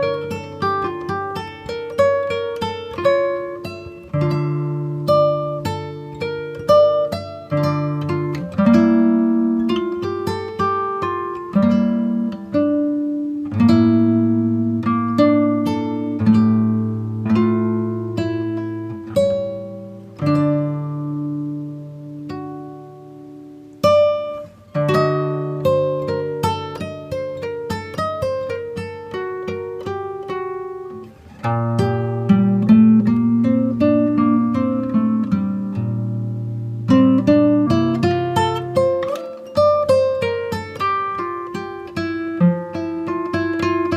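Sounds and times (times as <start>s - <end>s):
acoustic guitar slow melody: 0.0s - 43.9s.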